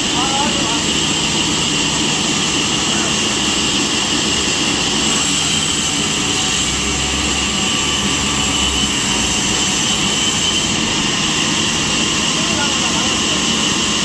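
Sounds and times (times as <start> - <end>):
saw blade running: 0.0 - 14.0.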